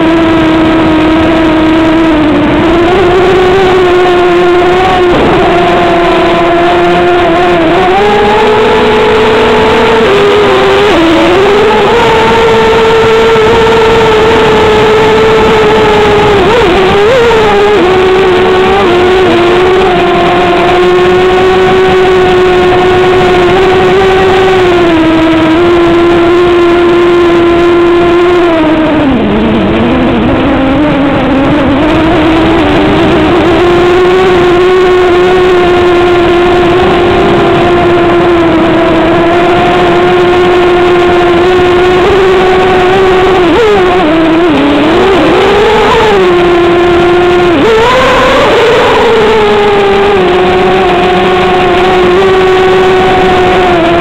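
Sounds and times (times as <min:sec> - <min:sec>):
model aircraft motor whine: 0:00.0 - 0:54.0.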